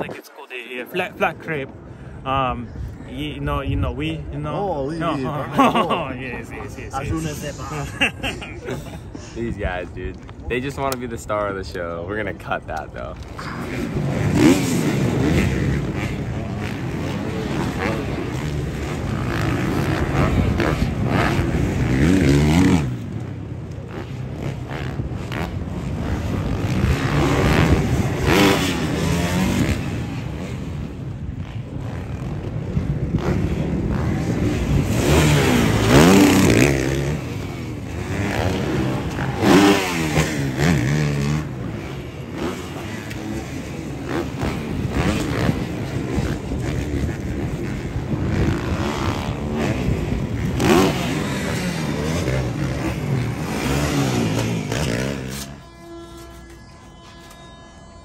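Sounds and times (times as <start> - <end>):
dirt bike engines revving: 0.0 - 57.4.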